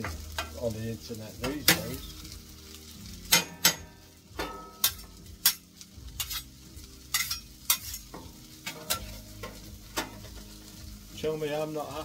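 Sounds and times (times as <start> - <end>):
onions sizzling on griddle: 0.0 - 12.0.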